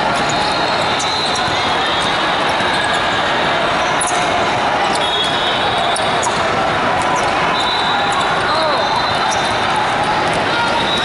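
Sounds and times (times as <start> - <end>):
basketballs bouncing: 0.0 - 11.0
many voices: 0.0 - 11.0
sneakers squeaking: 0.0 - 11.0.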